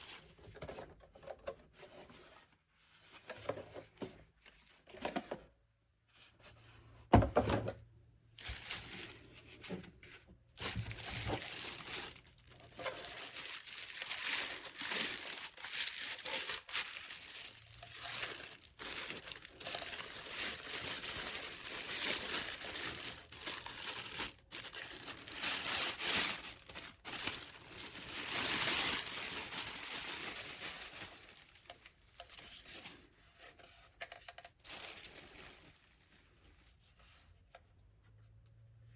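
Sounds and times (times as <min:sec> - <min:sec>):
rustling and crinkling handling noise: 0:00.0 - 0:38.9.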